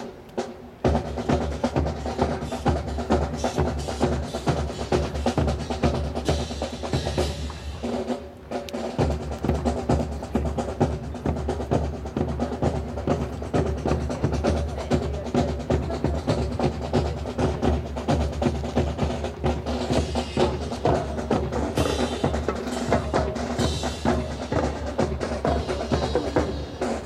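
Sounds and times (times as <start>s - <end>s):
fast snare and bass drumming: 0.0s - 27.0s
marching band music: 0.0s - 27.0s.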